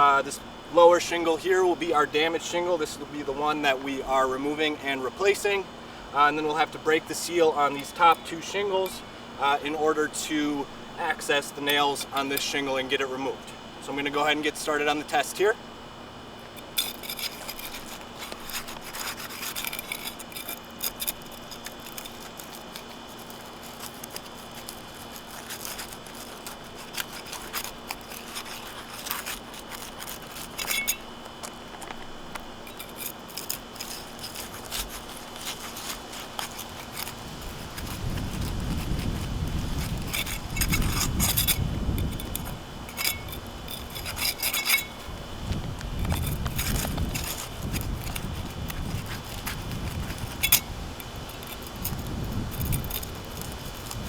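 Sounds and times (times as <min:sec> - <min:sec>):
tool scraping shingles: 0:06.2 - 0:15.6, 0:16.2 - 0:54.0.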